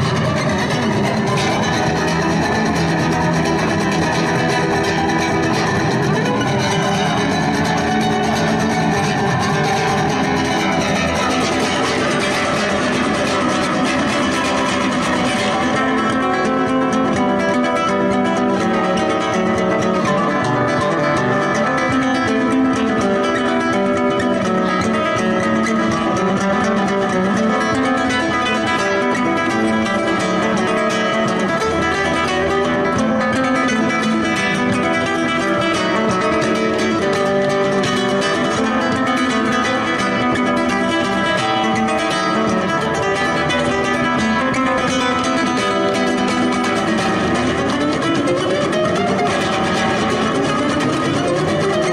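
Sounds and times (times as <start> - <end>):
flamenco acoustic guitar: 0.0 - 51.9.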